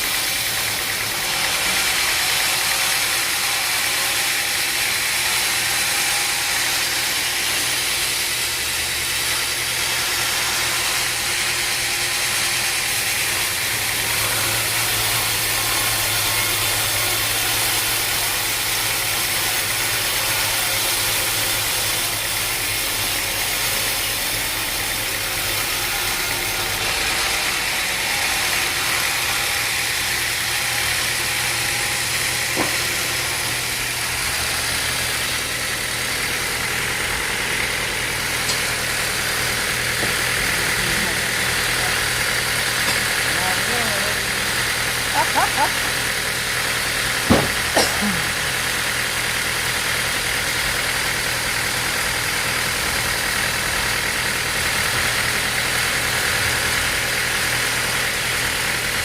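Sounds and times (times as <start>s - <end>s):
sawmill machinery motor hum: 0.0s - 59.0s.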